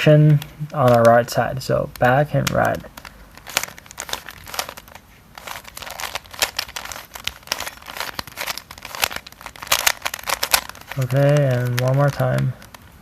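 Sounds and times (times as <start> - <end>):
puzzle cube clicking and scraping: 0.3 - 12.9.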